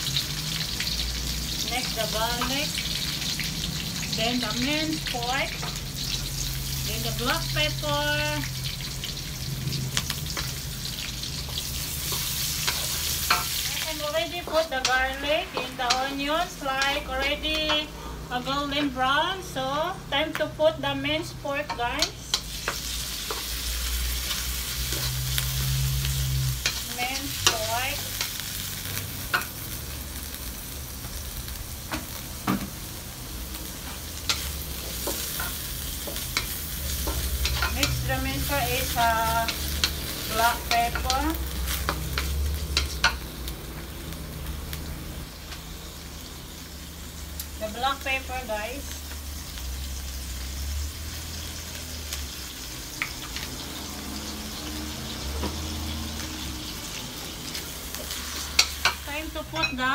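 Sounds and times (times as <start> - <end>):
meat sizzling in a wok: 0.0 - 59.9.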